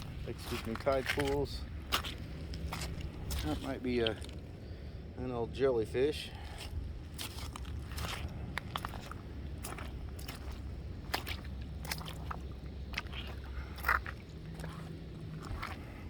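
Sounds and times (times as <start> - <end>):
footsteps crunching on rocks: 0.0 - 4.4, 6.5 - 16.0
steady low rumble: 0.0 - 16.0.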